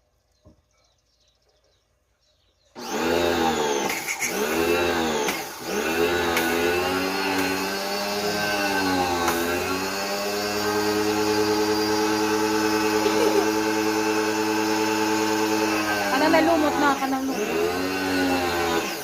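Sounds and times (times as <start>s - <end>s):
pressure washer motor whining: 2.8s - 19.0s.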